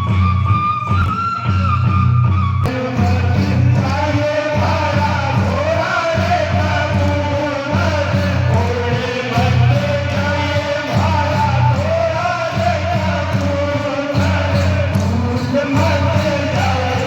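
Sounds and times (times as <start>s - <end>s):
heavy drum beat: 2.7s - 17.0s
person singing: 2.7s - 17.0s.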